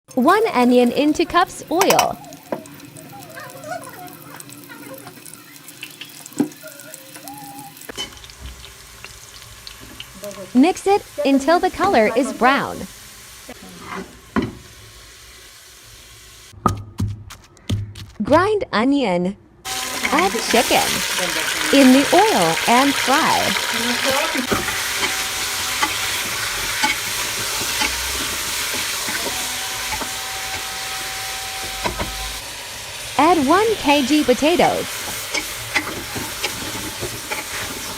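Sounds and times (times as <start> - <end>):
onion sizzling in hot oil: 0.2 - 16.6, 19.7 - 37.9.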